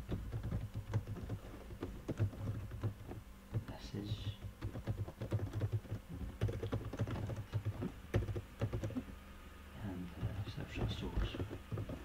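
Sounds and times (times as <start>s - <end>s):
computer keyboard typing: 0.1s - 9.1s, 10.8s - 12.0s.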